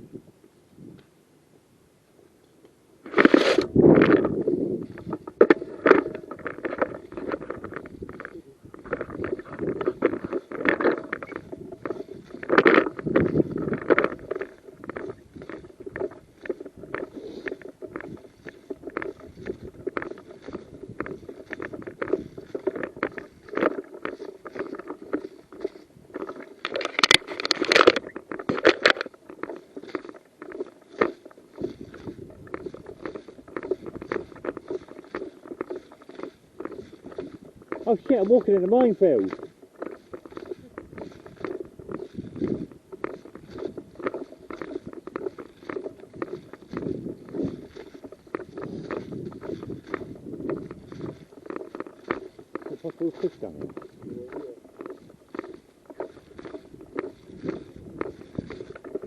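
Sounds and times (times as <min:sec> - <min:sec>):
clothing and kit rustling: 0:03.0 - 0:59.0
footsteps: 0:03.0 - 0:59.0.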